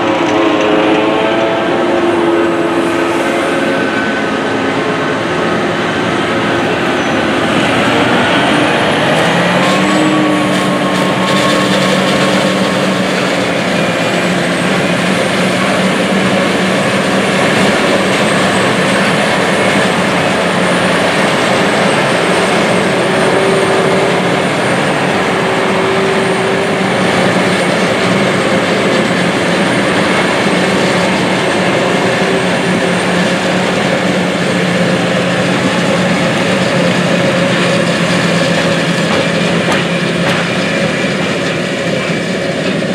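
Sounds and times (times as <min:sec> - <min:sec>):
harvester engine and chopping: 0:00.0 - 0:42.9.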